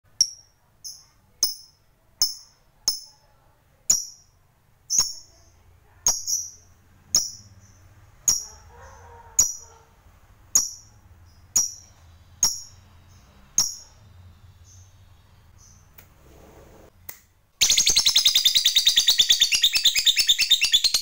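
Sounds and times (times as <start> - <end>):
bird chirping high-pitched: 0.1 - 9.8, 10.5 - 16.0, 17.6 - 21.0.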